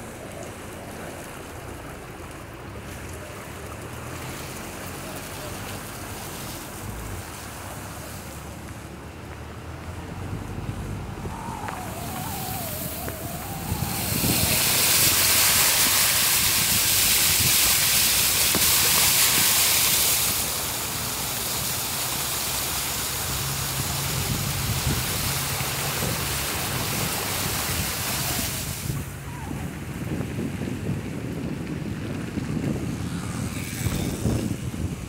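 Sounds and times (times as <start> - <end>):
water hissing and splashing: 0.0 - 8.9, 10.1 - 30.0
low engine hum: 0.0 - 35.0.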